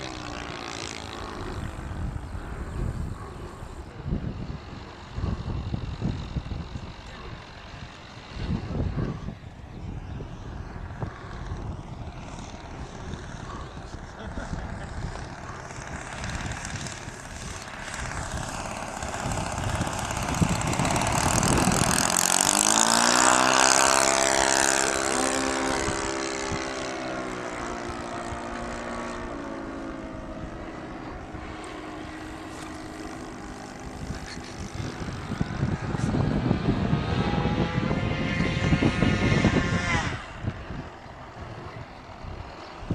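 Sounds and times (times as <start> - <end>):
propeller aircraft flying past: 0.0 - 42.9.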